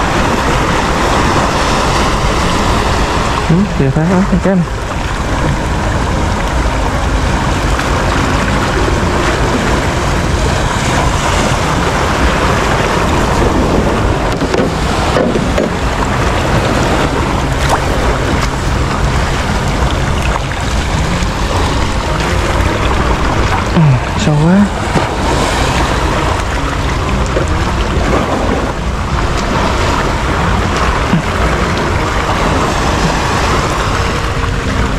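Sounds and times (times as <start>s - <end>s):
choppy sea waves: 0.0s - 34.9s
wind on microphone: 0.0s - 34.9s.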